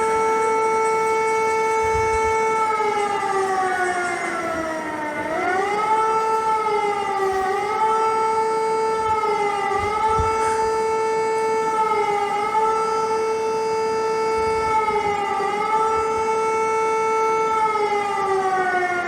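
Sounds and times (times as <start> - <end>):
warning siren: 0.0 - 19.0.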